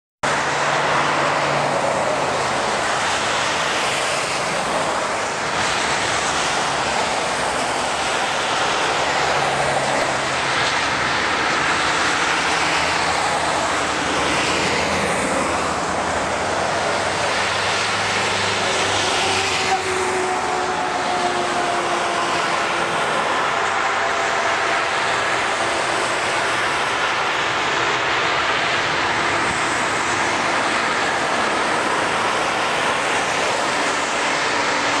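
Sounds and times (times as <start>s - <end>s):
passing vehicle engine drone: 0.2s - 35.0s
tyres hissing on highway: 0.3s - 35.0s.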